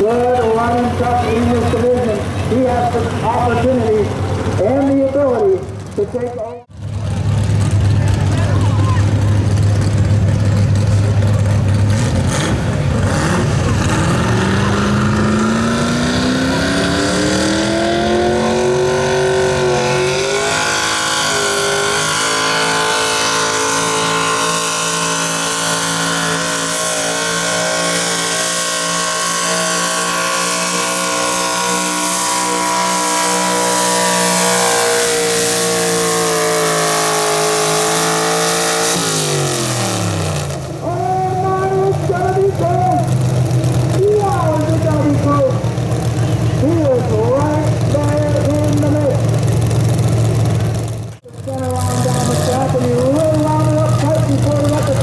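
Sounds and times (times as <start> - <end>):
truck engine revving under load: 0.0 - 55.0.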